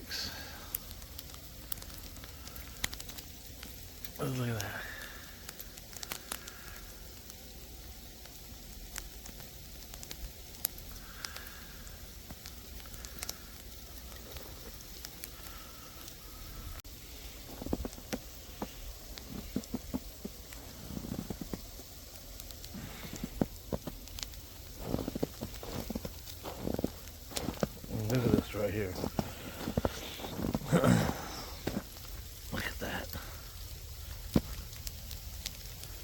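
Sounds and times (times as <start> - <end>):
sleet pellets ticking: 0.0 - 36.0.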